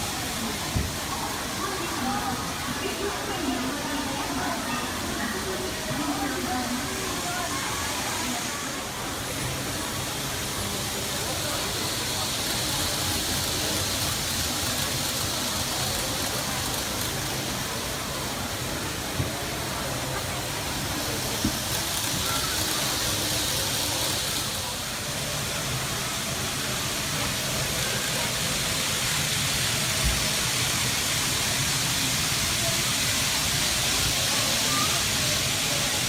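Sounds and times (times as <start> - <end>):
model train running on track: 0.0 - 36.0.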